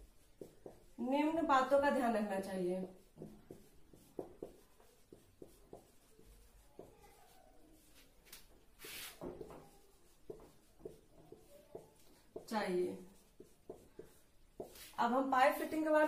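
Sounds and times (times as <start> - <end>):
marker pen writing on whiteboard: 0.0 - 16.0.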